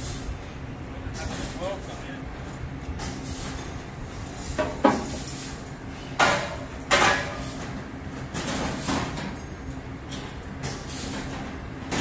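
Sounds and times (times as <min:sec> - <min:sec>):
shop hum: 0:00.0 - 0:12.0.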